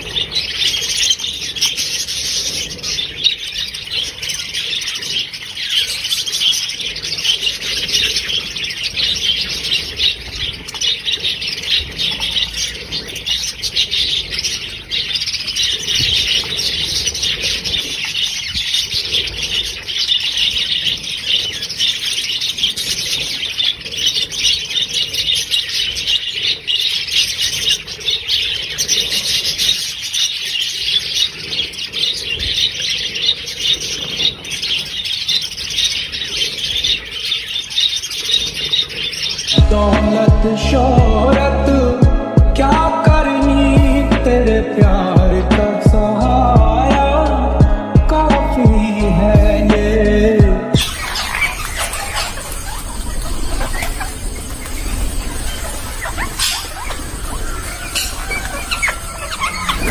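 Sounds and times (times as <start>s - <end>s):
parrots squawking: 0.0s - 59.9s.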